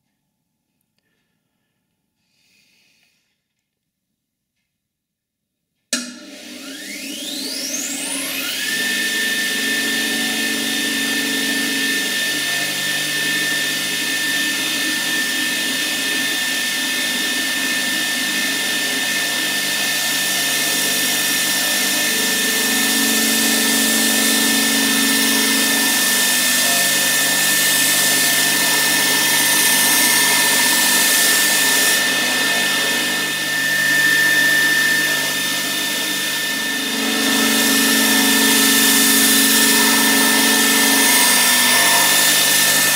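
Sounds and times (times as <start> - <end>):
belt grinder motor whine: 6.0 - 42.9.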